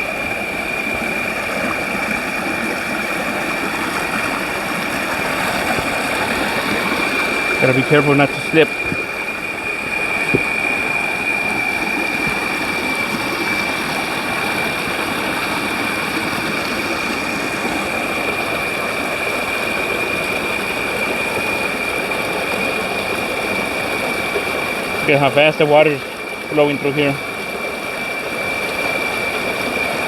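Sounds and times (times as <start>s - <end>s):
water rushing: 0.0s - 30.0s.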